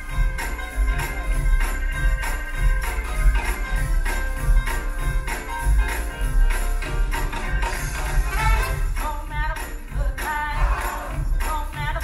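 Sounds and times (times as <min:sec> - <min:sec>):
upbeat stage musical music: 0:00.0 - 0:12.0.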